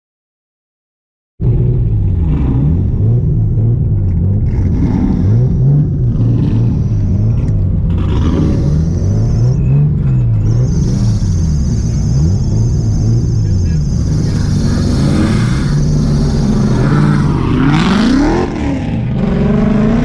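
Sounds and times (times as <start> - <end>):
car engine revs hunting: 1.4 - 20.0.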